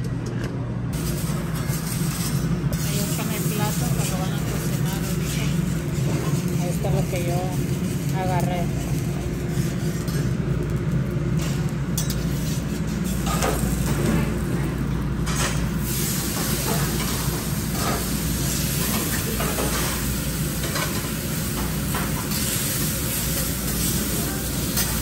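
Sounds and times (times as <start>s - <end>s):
steady low hum: 0.0s - 25.0s
food sizzling on a grill: 1.0s - 25.0s.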